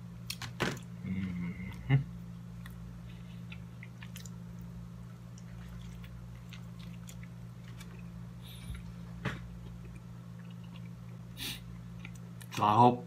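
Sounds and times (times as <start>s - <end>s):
steady low hum: 0.0s - 13.0s
man chewing food: 0.2s - 12.6s.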